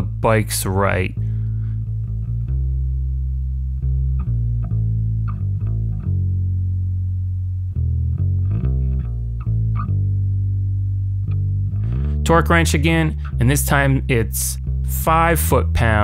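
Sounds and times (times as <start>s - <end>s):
bass guitar and guitar music: 0.0s - 16.0s.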